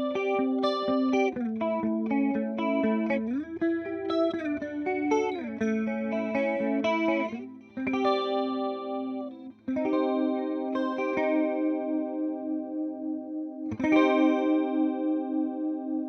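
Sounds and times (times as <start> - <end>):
clean electric guitar with chorus: 0.0 - 16.0.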